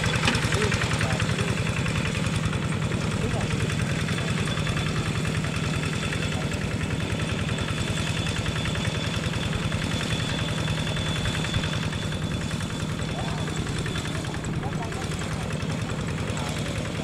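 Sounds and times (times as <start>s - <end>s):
diesel locomotive engine throbbing: 0.0s - 17.0s.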